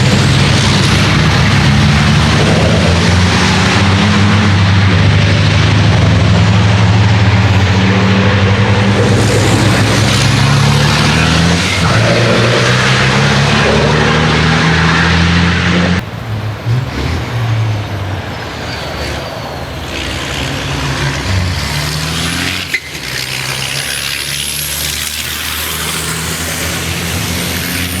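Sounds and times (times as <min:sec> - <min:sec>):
diesel truck engines running hard: 0:00.0 - 0:28.0.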